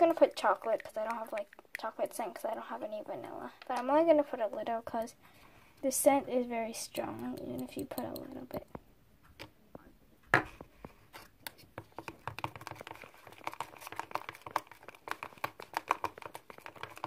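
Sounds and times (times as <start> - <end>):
slime being stirred crackling: 0.0 - 5.2, 5.8 - 8.8, 10.8 - 17.0.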